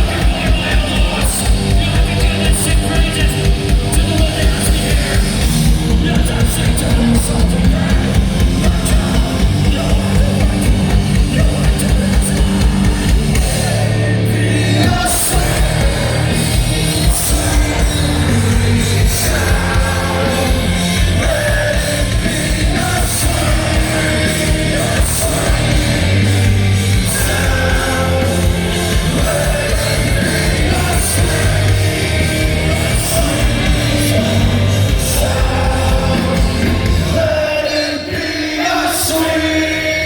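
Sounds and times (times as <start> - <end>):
bass guitar: 0.0 - 37.6
distorted guitars: 0.0 - 40.0
drums: 0.0 - 40.0
sung and shouted vocals: 0.0 - 40.0.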